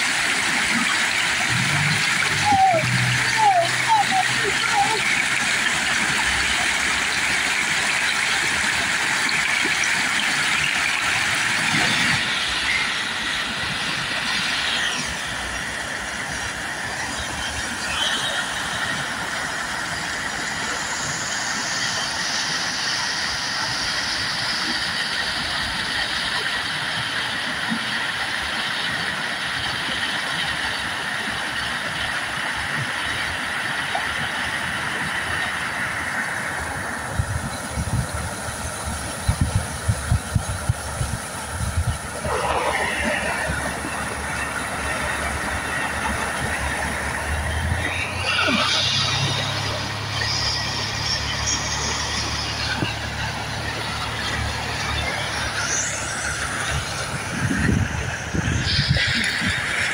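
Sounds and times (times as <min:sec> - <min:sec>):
whitewater rushing: 0:00.0 - 0:59.9.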